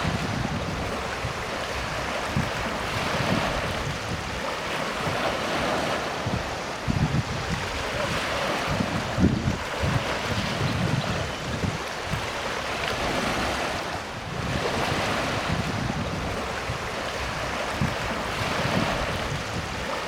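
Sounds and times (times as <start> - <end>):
sea waves washing: 0.0 - 20.0
wind buffeting microphone: 0.0 - 20.0.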